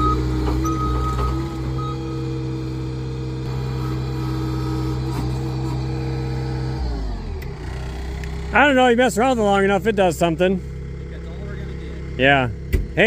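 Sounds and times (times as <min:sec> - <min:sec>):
log splitter engine running: 0:00.0 - 0:13.0.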